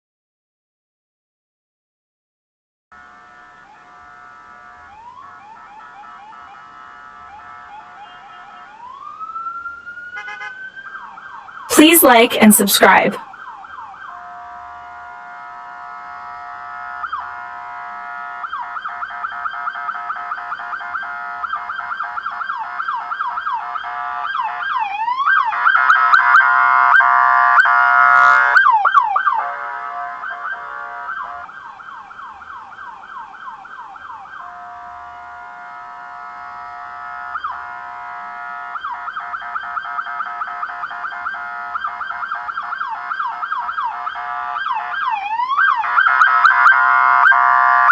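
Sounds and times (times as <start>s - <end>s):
police car siren: 3.0s - 47.9s.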